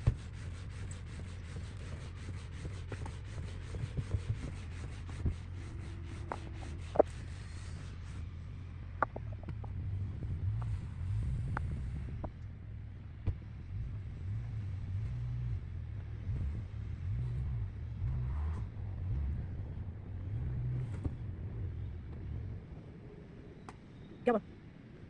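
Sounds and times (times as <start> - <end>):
car engine rumbling: 0.0 - 25.0.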